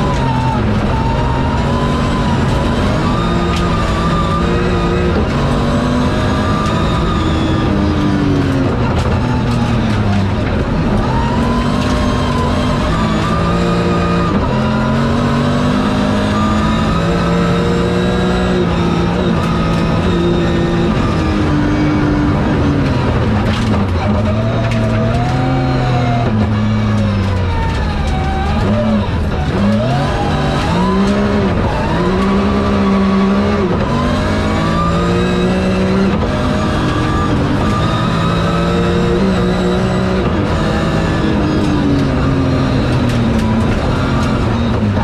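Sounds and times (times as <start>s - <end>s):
rally car engine revving: 0.0s - 45.0s.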